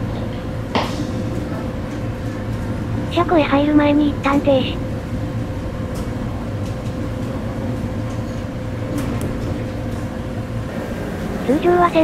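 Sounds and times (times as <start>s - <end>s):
steady hum: 0.0s - 12.0s
train low rumble: 0.0s - 12.0s.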